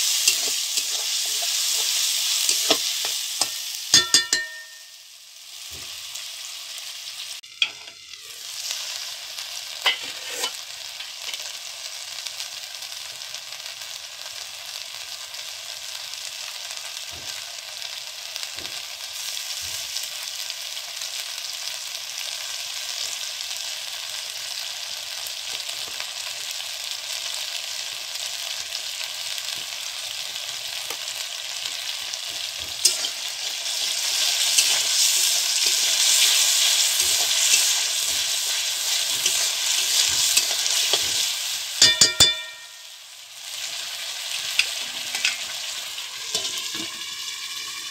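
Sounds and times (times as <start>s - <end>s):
spice paste sizzling in oil: 0.0s - 47.9s.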